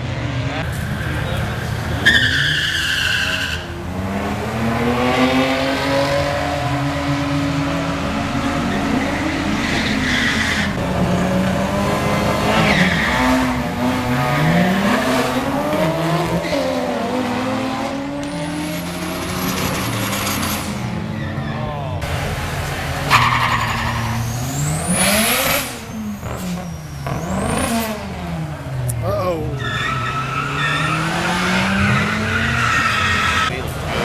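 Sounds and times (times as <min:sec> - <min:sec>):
drag racing cars accelerating: 0:00.0 - 0:34.0.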